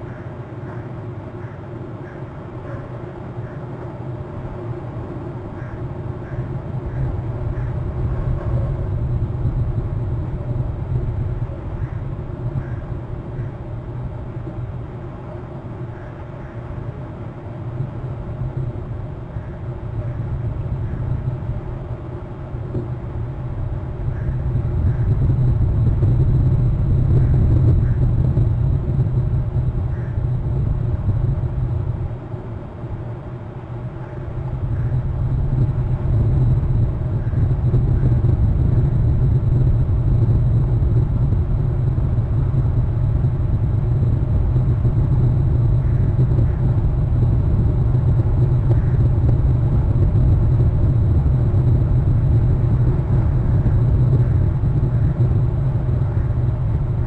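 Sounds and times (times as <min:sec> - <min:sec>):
wind buffeting microphone: 0:04.1 - 0:57.0.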